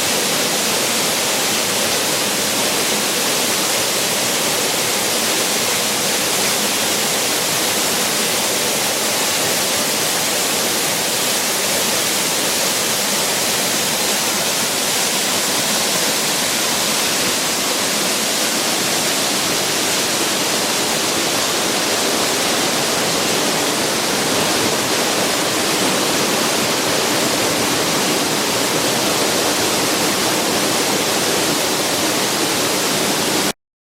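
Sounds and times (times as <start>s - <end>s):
waterfall splashing into pool: 0.0s - 33.5s.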